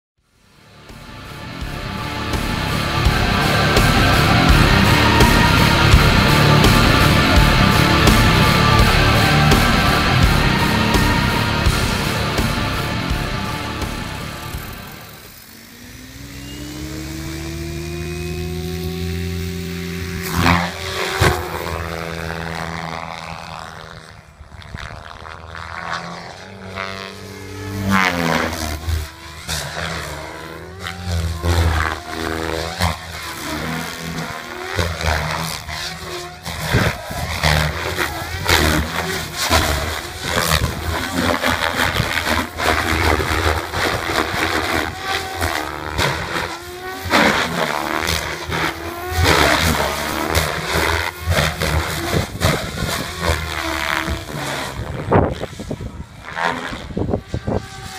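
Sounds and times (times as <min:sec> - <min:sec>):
rc helicopter rotor whine: 0:00.2 - 0:57.9
rotor blades chopping: 0:00.6 - 0:57.9.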